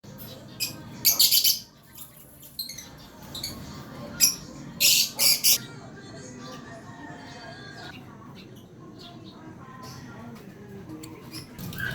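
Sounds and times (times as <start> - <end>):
lovebirds chirping: 0.1 - 10.4.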